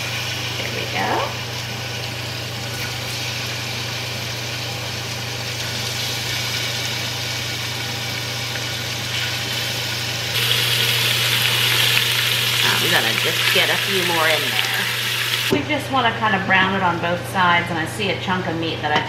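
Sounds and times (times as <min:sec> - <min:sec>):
beef sizzling in a hot pot: 0:00.0 - 0:15.5
low hum with hiss: 0:00.0 - 0:19.0.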